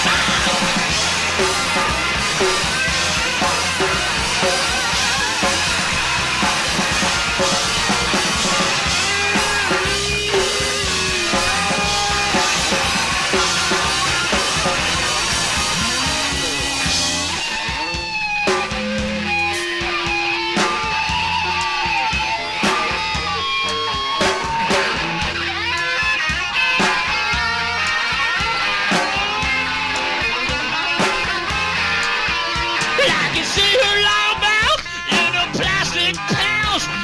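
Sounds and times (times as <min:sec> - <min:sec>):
lead guitar bending notes: 0:00.0 - 0:37.0
rock band playing live: 0:00.0 - 0:37.0.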